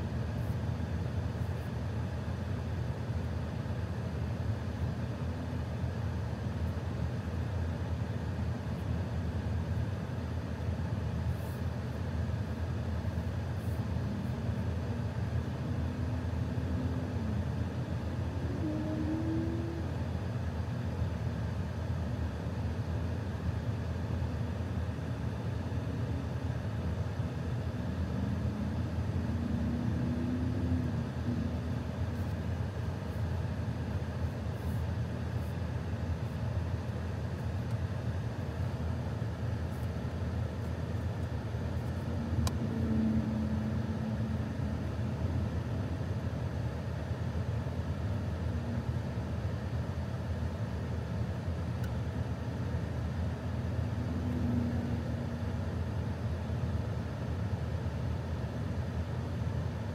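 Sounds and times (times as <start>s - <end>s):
car engine idling in cabin: 0.0s - 59.9s.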